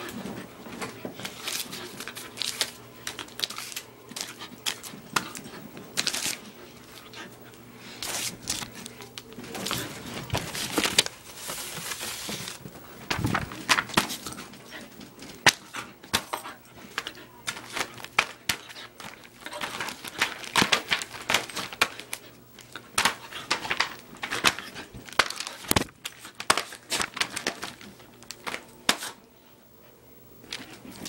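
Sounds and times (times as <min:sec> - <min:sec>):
bedding rustling and crinkling: 0:00.0 - 0:29.2.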